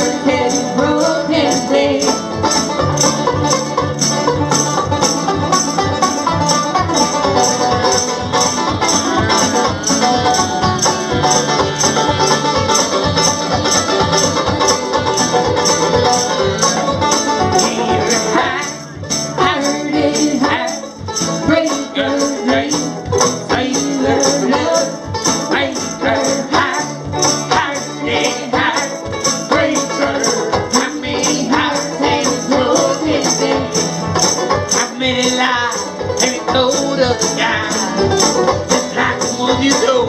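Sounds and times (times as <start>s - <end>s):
plucked strings: 0.0s - 40.0s
shaken percussion beat: 0.0s - 40.0s.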